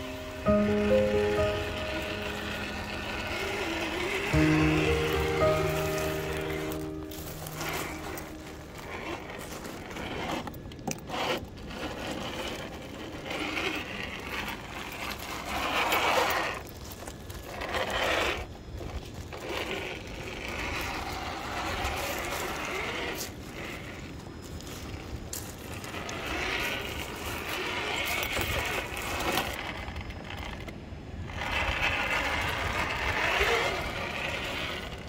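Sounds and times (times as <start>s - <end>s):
toy car motor whirring: 1.4s - 35.0s.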